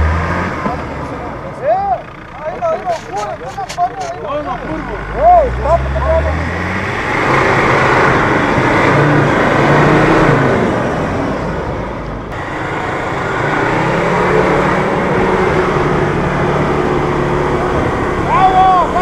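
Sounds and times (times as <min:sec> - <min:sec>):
engine working hard under load: 0:00.0 - 0:19.0.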